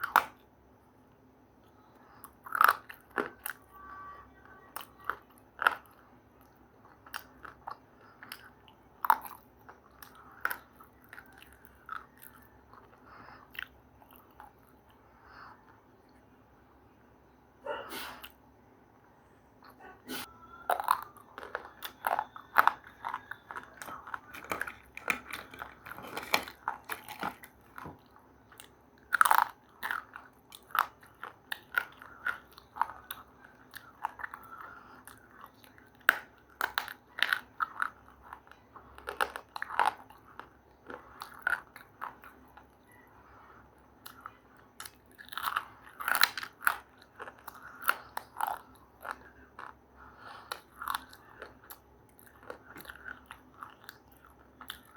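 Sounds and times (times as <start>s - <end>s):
crunchy chewing of crisp food: 0.0s - 0.6s, 1.2s - 16.3s, 19.6s - 54.9s.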